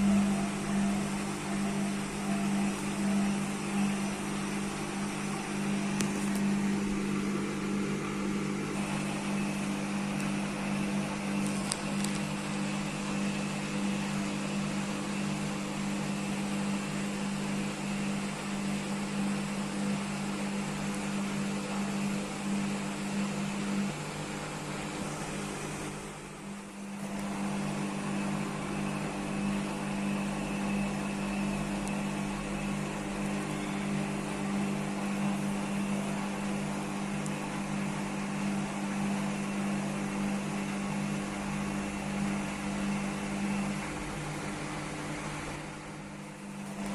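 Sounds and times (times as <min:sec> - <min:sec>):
washing machine spinning: 0:00.0 - 0:46.9.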